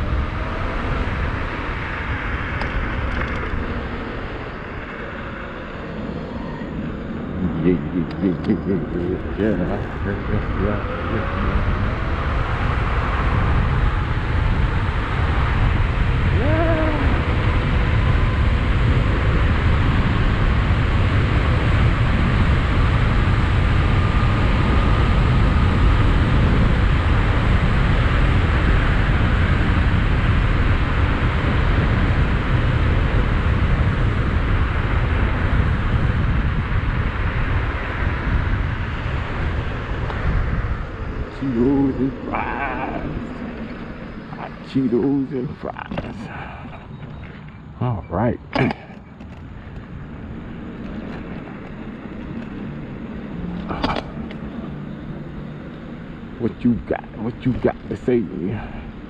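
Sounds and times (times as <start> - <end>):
faint electric motor whine: 0.0 - 59.0
road noise: 0.0 - 59.0
wind rushing over microphone: 0.0 - 59.0.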